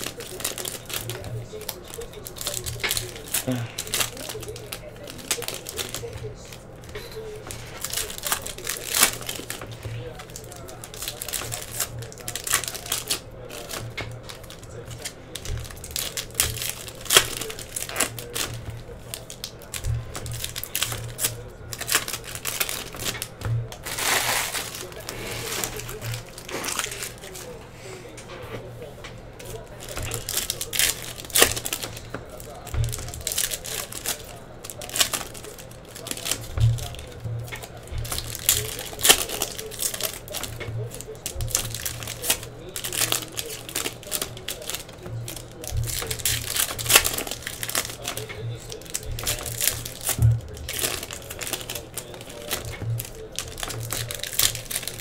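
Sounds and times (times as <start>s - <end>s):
trading cards flicking and snapping: 0.0s - 27.6s, 29.0s - 55.0s
foil wrappers crinkling and tearing: 0.0s - 55.0s.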